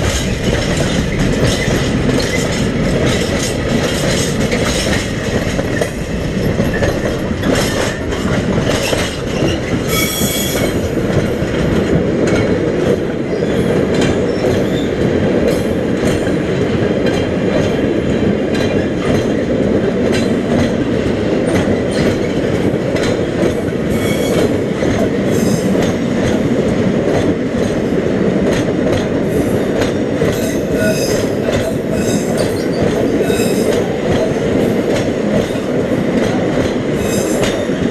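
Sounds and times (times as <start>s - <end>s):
train wheels clattering over rail joints: 0.0s - 37.9s.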